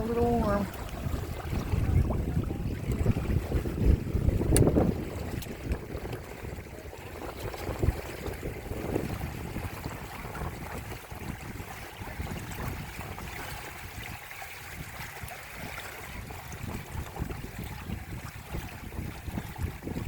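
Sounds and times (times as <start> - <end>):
water rushing along boat hulls: 0.0 - 20.0
wind rumbling on microphone: 0.0 - 20.0.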